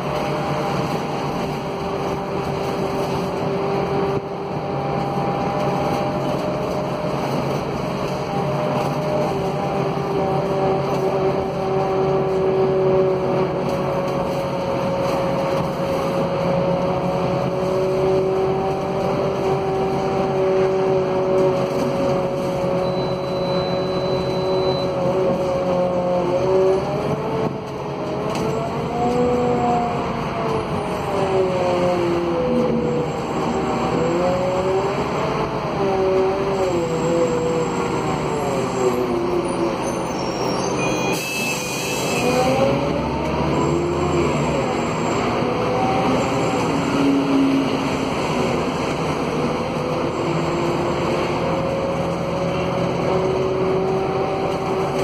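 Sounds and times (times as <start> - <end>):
bus drivetrain whine: 0.0 - 55.0
road noise: 0.0 - 55.0.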